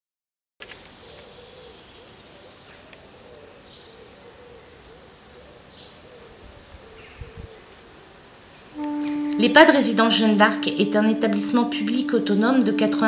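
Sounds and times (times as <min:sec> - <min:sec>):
steady hiss: 0:00.6 - 0:13.0.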